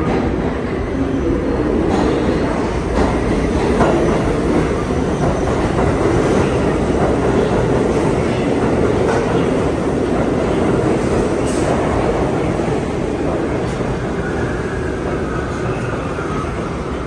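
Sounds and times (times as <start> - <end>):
subway train wheels rumbling on rail: 0.0 - 17.0.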